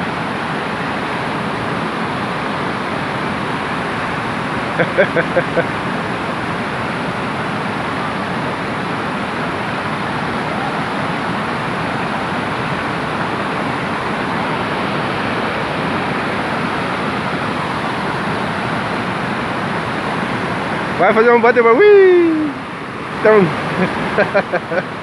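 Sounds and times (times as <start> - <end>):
water rushing over dam spillway: 0.0 - 25.0.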